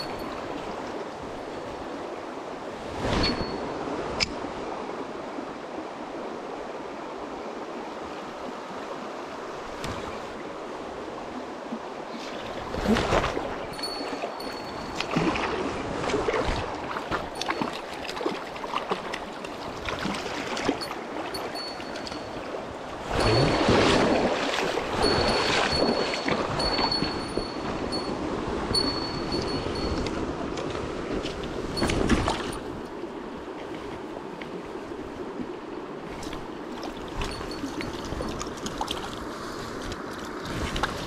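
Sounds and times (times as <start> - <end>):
river running over stones: 0.0 - 41.0.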